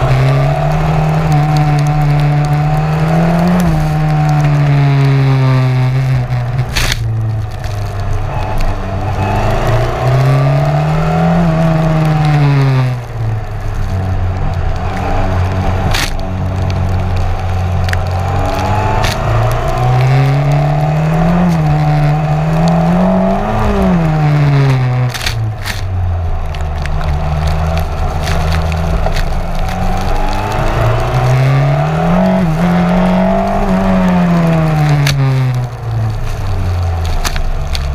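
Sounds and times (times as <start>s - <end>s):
race car engine revving: 0.0s - 37.9s
water spray from tyres: 0.0s - 37.9s.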